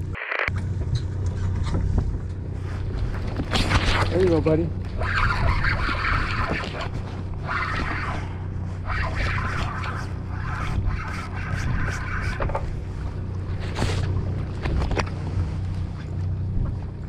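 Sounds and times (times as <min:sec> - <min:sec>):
boat hum: 0:00.0 - 0:17.0.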